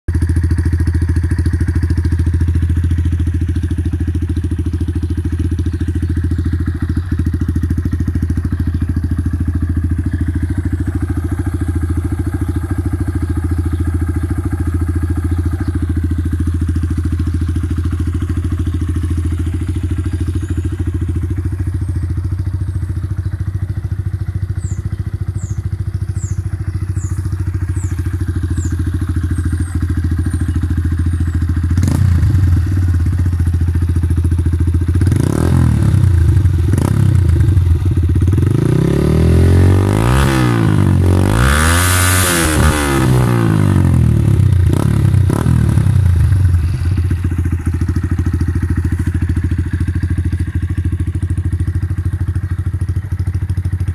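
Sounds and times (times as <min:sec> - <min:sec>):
motorcycle engine idling: 0:00.1 - 0:53.9.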